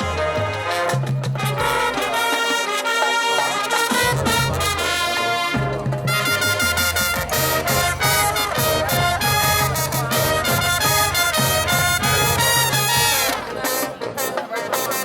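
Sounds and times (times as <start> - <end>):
marching band playing rock: 0.0 - 15.0.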